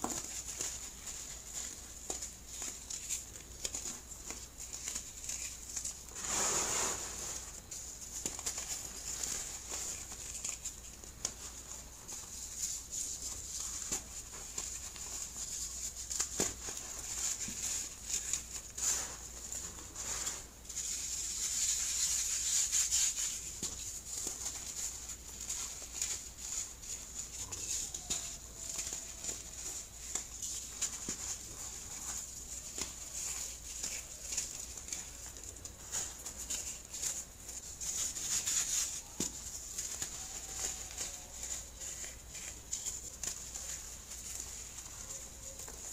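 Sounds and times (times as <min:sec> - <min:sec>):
baking soda crunching: 0:00.0 - 0:45.9.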